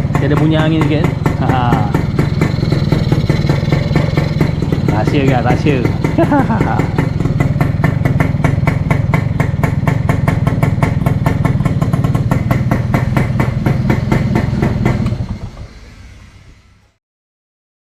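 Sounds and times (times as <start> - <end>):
two-stroke motorcycle engine idling: 0.0 - 17.0.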